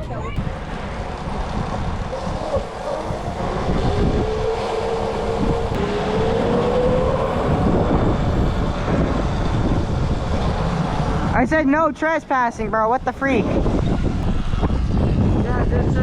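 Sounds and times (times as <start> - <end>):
wind rumble on microphone: 0.0 - 16.0
electric dirt bike motor whine: 0.4 - 11.4, 13.0 - 15.9.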